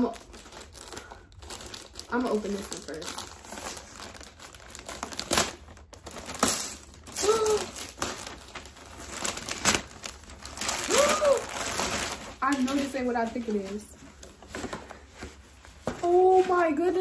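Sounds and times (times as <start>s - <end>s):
wrapping paper tearing and crinkling: 0.0s - 17.0s.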